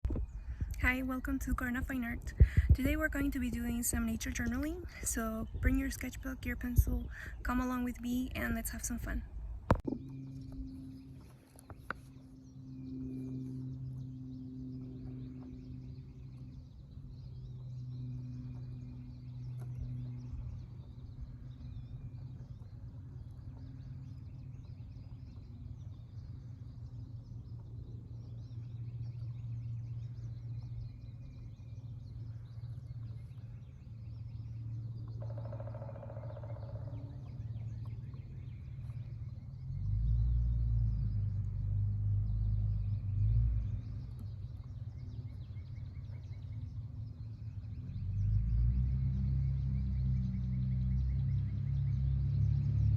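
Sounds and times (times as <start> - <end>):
low rumble: 0.0 - 52.9
steady low hum: 0.0 - 52.9
faint bird chirps: 9.9 - 52.7.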